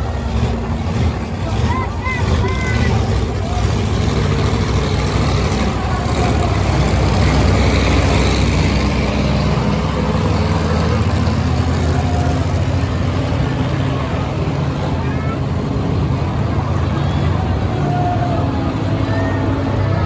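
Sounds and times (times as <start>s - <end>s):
monster truck engines revving: 0.0s - 20.0s.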